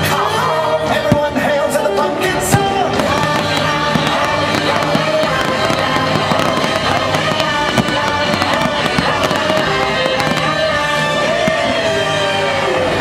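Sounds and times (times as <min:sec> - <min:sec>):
loud music: 0:00.0 - 0:13.0
fireworks bursting: 0:02.4 - 0:13.0.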